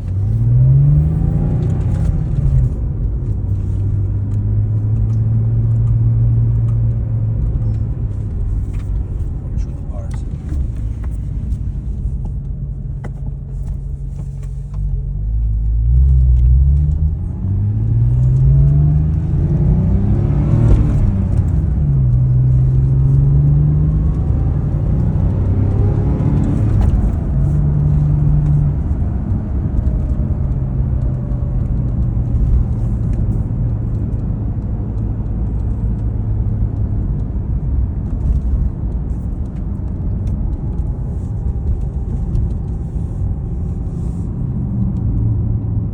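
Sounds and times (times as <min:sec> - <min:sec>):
car engine revving and idling: 0:00.0 - 0:45.9.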